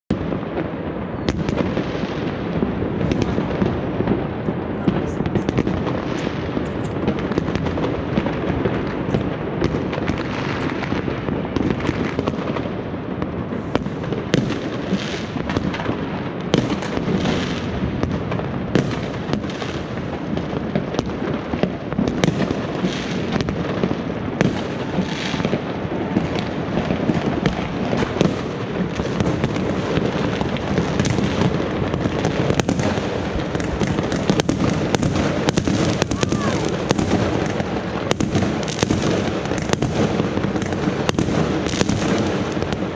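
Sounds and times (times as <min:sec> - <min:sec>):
fireworks bangs: 0:00.1 - 0:42.9
fireworks crackling: 0:00.1 - 0:42.9.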